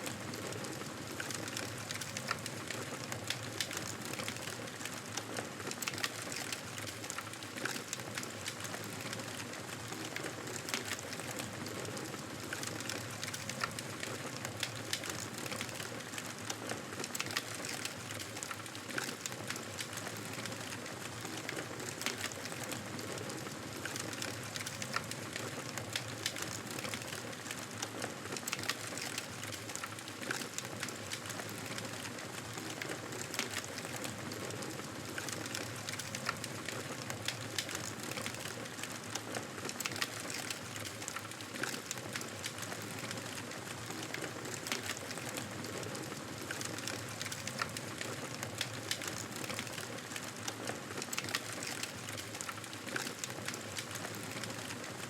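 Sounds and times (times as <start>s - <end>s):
fire crackles and pops: 0.0s - 55.0s.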